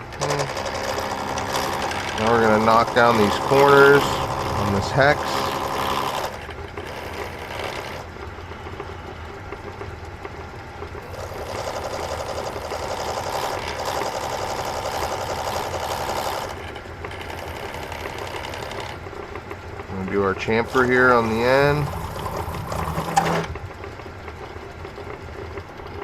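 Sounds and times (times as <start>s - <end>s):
lathe tool cutting metal rattle: 0.0s - 9.0s, 11.0s - 23.7s
lathe motor hum: 0.0s - 26.0s.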